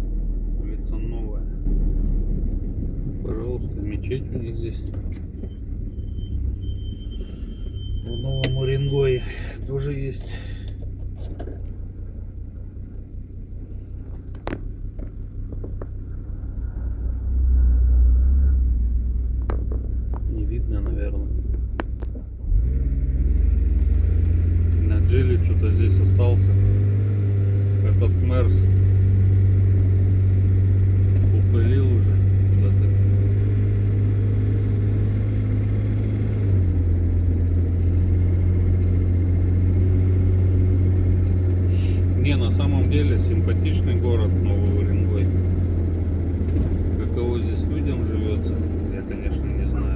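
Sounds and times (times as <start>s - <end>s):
vehicle engine and road rumble: 0.0s - 49.9s.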